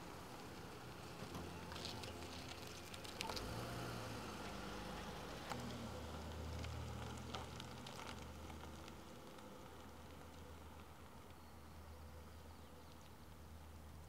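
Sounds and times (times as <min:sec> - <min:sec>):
faint low engine rumble: 0:00.0 - 0:14.0.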